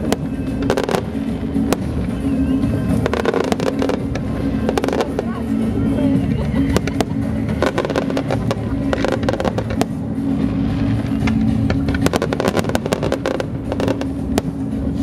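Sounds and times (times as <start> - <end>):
fireworks bangs and crackles: 0.0 - 15.0
low drone: 0.0 - 15.0
low rumble: 0.0 - 15.0.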